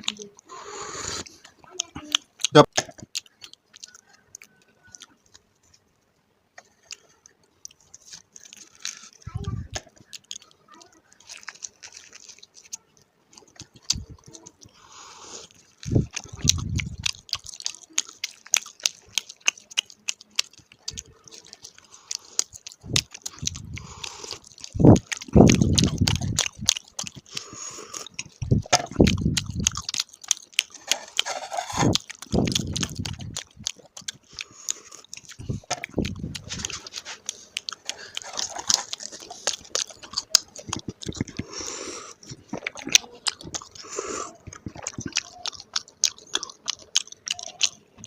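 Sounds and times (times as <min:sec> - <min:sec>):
crunching and chewing flatbread: 0:00.0 - 0:48.0.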